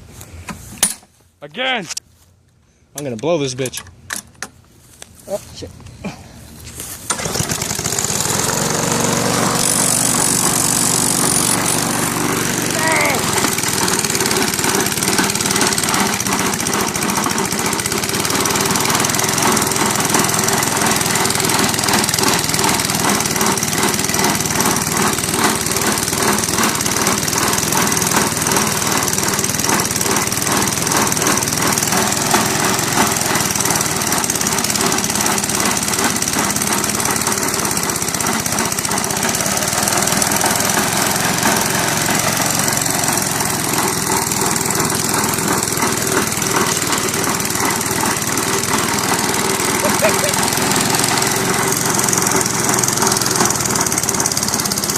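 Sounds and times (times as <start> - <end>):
lawnmower engine running: 6.4 - 54.9.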